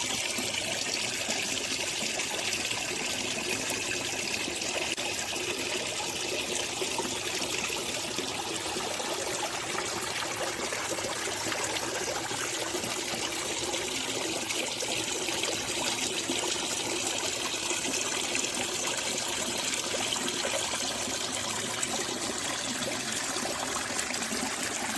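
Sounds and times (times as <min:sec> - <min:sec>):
water trickling and splashing: 0:00.0 - 0:24.9.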